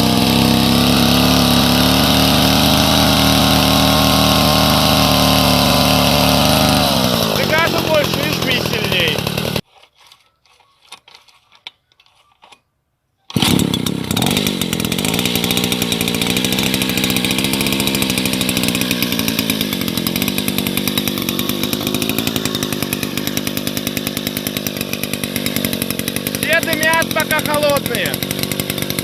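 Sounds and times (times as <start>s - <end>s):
chainsaw engine running: 0.0s - 9.6s, 13.3s - 29.0s.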